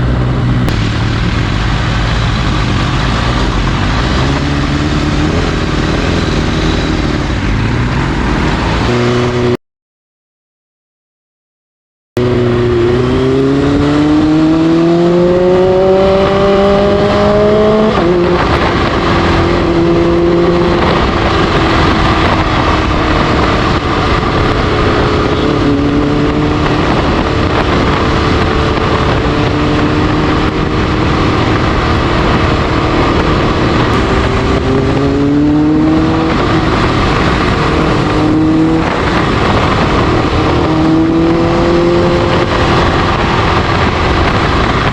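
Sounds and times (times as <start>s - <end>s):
motorcycle engine accelerating: 0.0s - 9.6s, 12.2s - 44.9s
wind and road noise: 0.0s - 9.6s, 12.2s - 44.9s.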